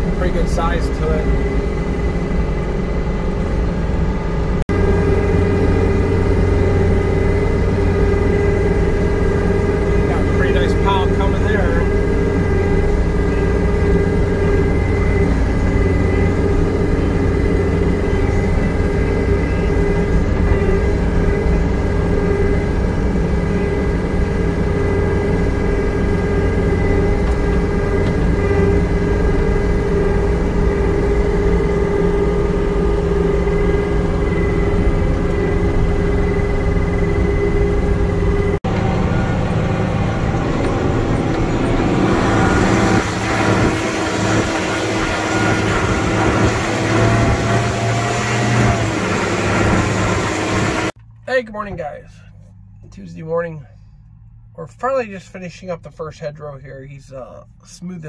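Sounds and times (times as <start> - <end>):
steady high tone: 0.0 - 53.8
diesel loader engine running: 0.0 - 58.0
dump truck engine from cab: 0.0 - 58.0.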